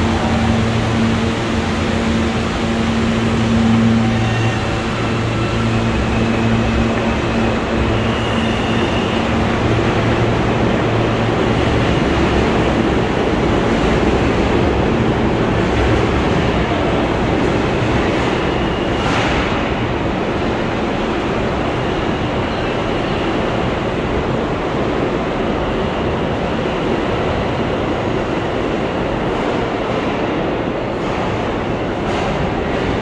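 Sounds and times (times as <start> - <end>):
subway train rumble: 0.0 - 33.0.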